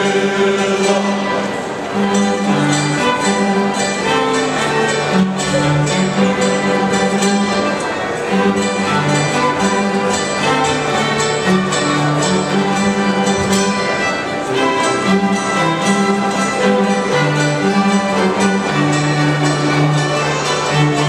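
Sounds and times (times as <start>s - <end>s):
plucked string ensemble folk music: 0.0s - 21.0s.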